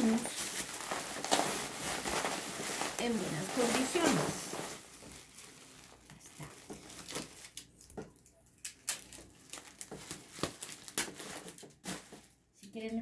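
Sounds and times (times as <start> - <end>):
bubble wrap crackling: 0.0 - 13.0.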